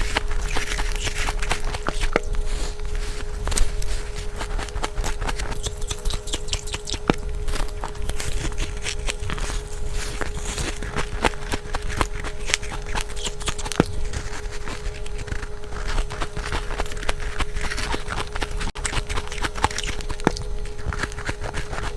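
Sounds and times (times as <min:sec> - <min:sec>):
ice being chewed: 0:00.0 - 0:21.9.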